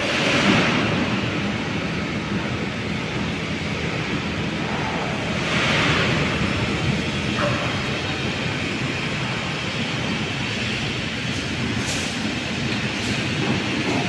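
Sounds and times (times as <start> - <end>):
overhead crane rumbling: 0.0 - 14.0.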